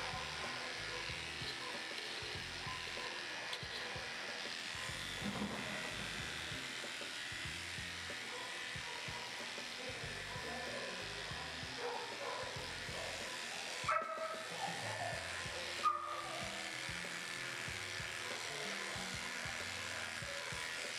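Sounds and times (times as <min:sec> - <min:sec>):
electric clippers running: 0:00.0 - 0:20.9.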